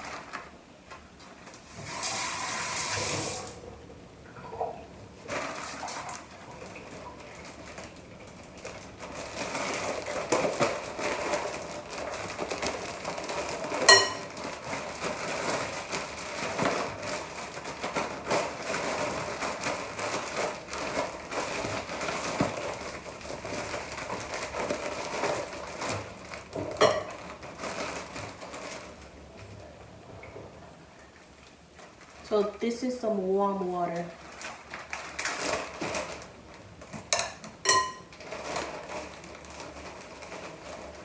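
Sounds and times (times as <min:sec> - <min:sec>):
rustling and crackling: 0:04.5 - 0:41.0.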